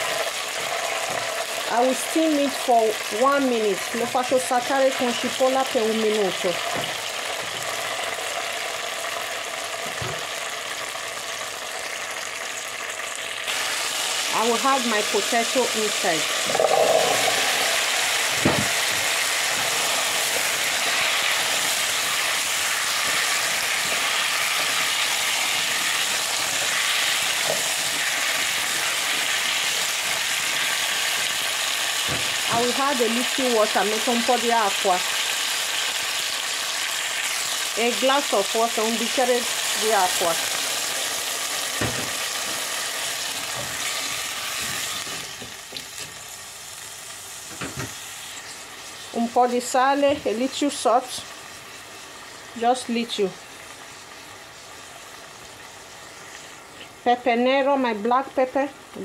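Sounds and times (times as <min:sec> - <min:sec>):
potatoes sizzling in hot oil: 0:00.0 - 0:59.0.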